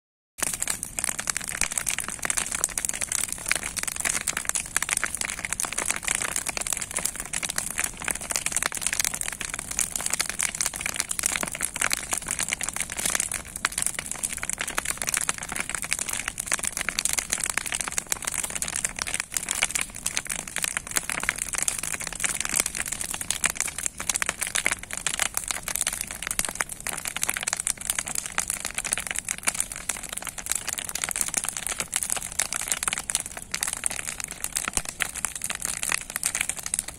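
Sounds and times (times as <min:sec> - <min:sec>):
bonfire crackling: 0:00.4 - 0:36.9.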